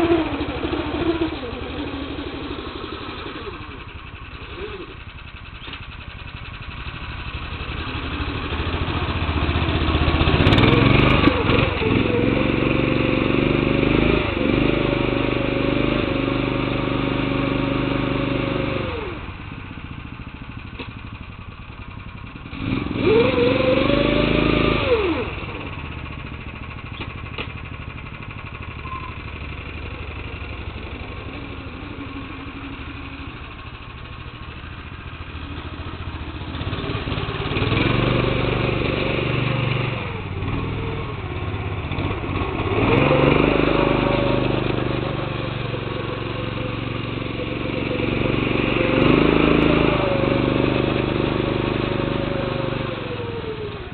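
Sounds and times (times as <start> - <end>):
tractor engine revving and idling: 0.0 - 53.9.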